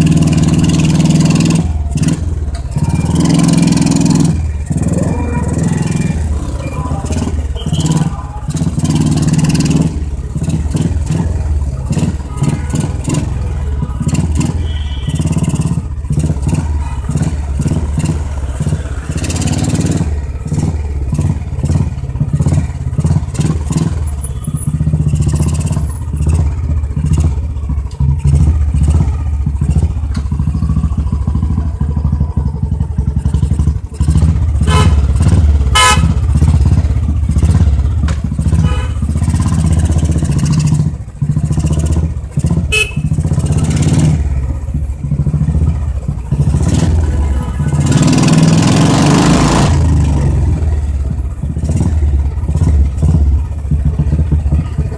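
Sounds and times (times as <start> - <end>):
motorcycle exhaust thumping: 0.0 - 54.9.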